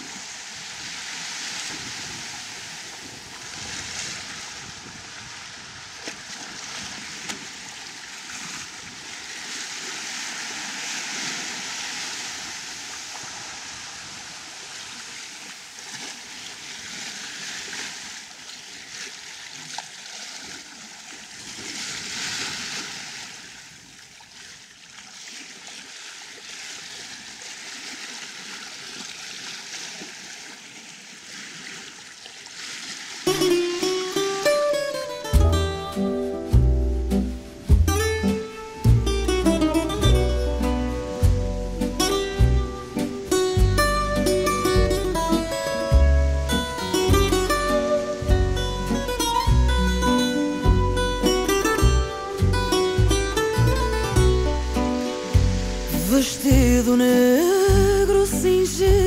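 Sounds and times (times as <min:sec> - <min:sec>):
water rushing along hull: 0:00.0 - 0:59.0.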